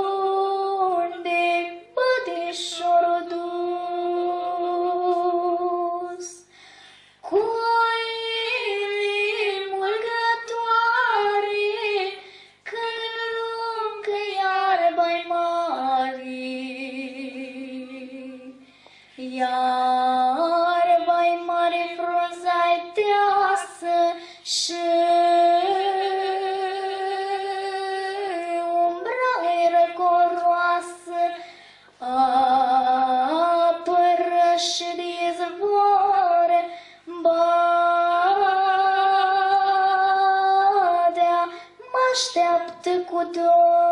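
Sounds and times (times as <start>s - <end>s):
woman and girl singing folk song: 0.0s - 43.9s.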